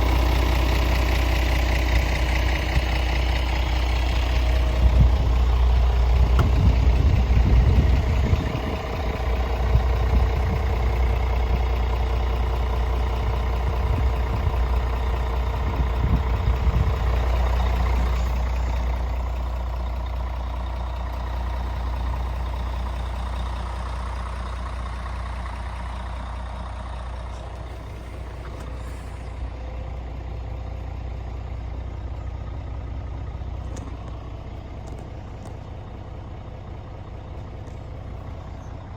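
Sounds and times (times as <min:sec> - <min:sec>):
low engine knocking: 0:00.0 - 0:28.8, 0:29.4 - 0:38.9
diesel truck engine idling: 0:00.0 - 0:38.9.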